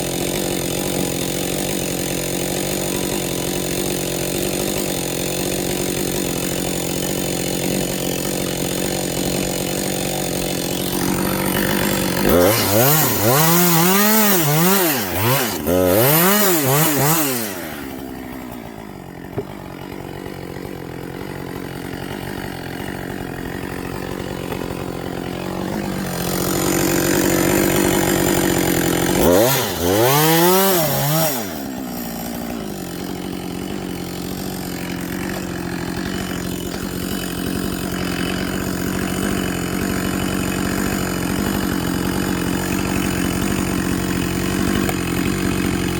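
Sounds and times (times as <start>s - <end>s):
chainsaw revving and idling: 0.0s - 45.9s.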